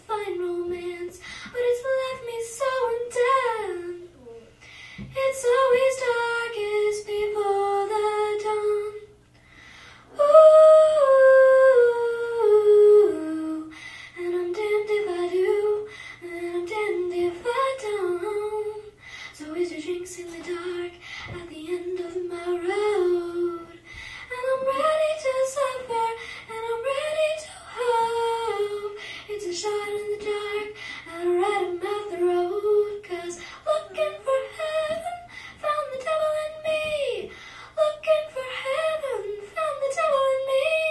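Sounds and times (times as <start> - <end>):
girl singing into microphone: 0.0 - 9.2, 10.1 - 40.9.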